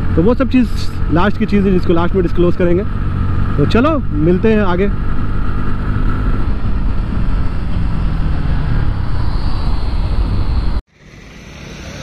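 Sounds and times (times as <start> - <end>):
motorcycle engine running: 0.0 - 12.0
riding wind noise: 0.0 - 12.0.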